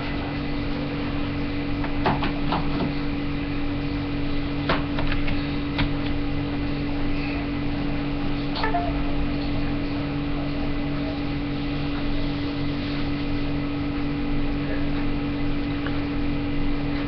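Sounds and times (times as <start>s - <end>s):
low mechanical drone: 2.9s - 17.0s.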